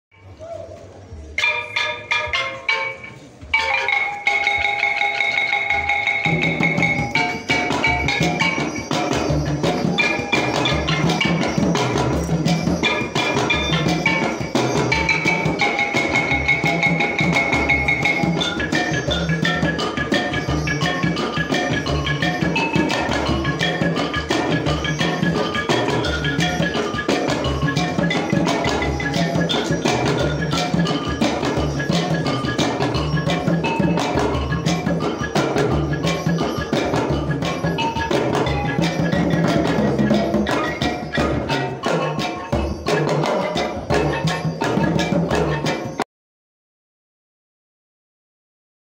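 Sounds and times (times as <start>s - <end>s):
drums beating: 0.2s - 46.0s
bell-like melody: 1.4s - 46.0s.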